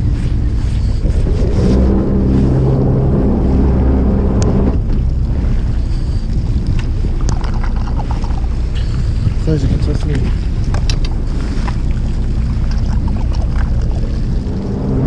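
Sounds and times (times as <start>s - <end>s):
boat engine running: 0.0s - 15.0s
low pitched hum: 0.0s - 15.0s
wind buffeting microphone: 0.0s - 15.0s.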